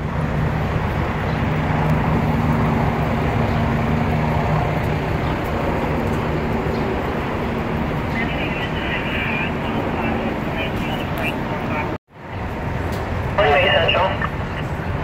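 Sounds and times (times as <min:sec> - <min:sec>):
city street traffic hum: 0:00.0 - 0:15.0.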